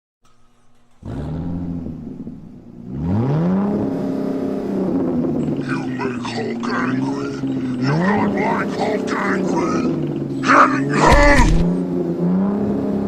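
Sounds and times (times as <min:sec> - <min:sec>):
vehicle engine revving: 0:00.5 - 0:13.0.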